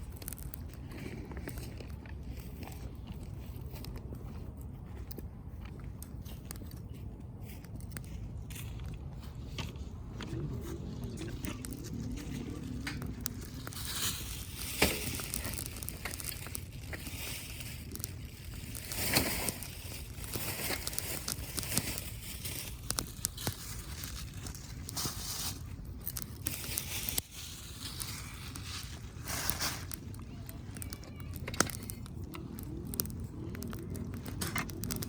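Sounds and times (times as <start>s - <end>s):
crinkling and rustling handling: 0.0s - 35.0s.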